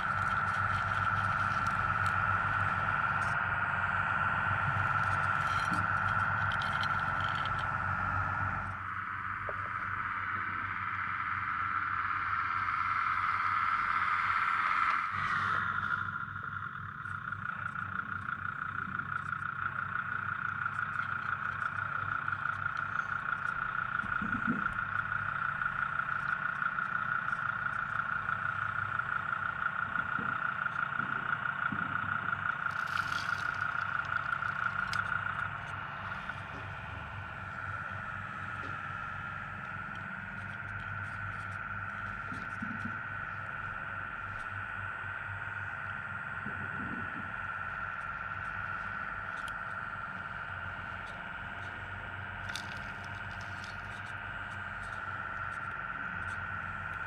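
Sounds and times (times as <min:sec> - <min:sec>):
toy loader motor whine: 0:00.0 - 0:57.0.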